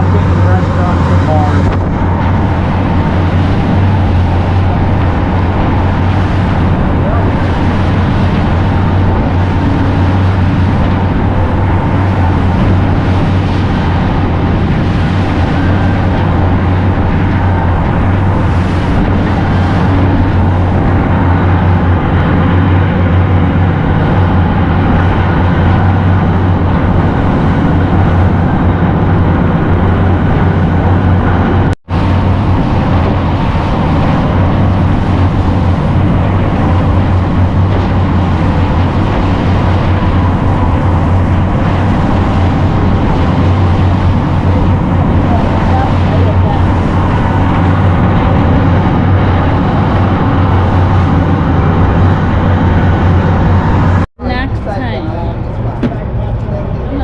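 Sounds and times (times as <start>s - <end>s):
boat engine humming: 0.0s - 57.0s
water rushing: 0.0s - 57.0s.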